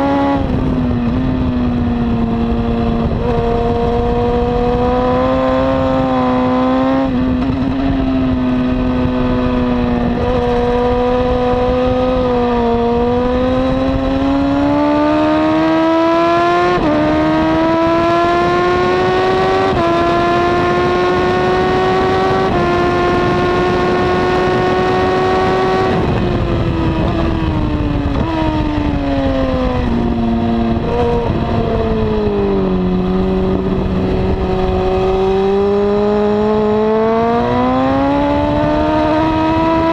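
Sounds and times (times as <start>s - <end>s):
sport bike engine revving through gears: 0.0s - 39.9s.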